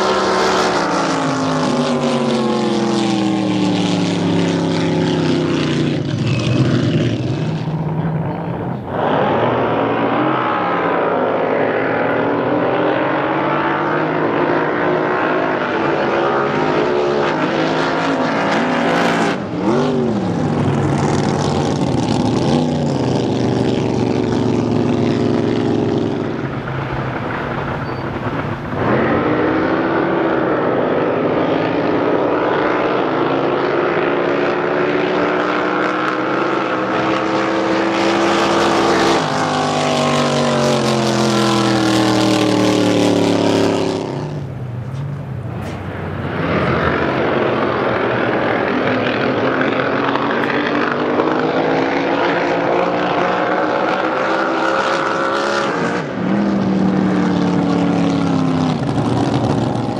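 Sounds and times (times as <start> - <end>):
drag boat racing engines: 0.0 - 59.9.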